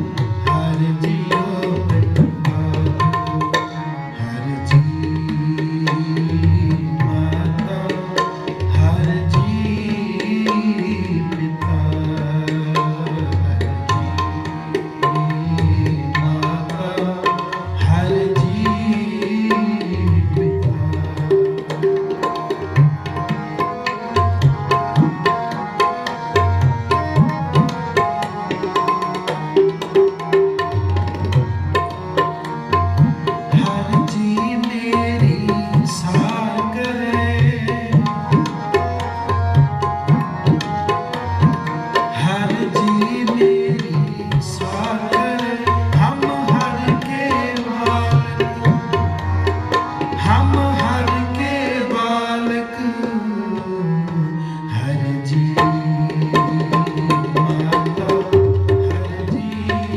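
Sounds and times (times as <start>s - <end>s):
tabla fast strokes: 0.0s - 51.9s, 55.5s - 59.9s
harmonium melody: 0.0s - 59.9s.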